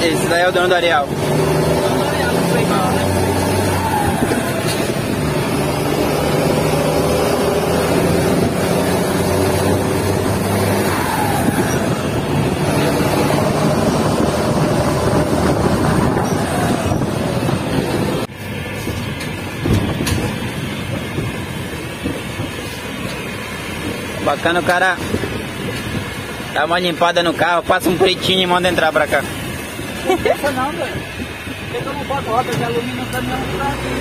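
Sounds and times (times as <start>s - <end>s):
road and cab noise: 0.0s - 34.0s
truck diesel engine running: 0.0s - 34.0s.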